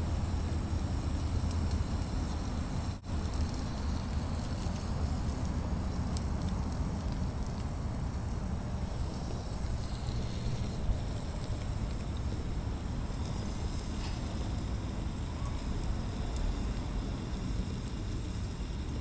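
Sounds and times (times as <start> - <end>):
faint fire crackles: 0.0 - 19.0
low rumble of stove fire: 0.0 - 19.0.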